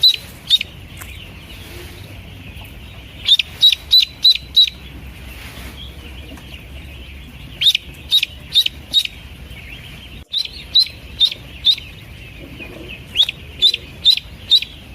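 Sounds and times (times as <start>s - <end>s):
ducklings peeping: 0.0s - 14.9s
low steady hum: 0.0s - 14.9s.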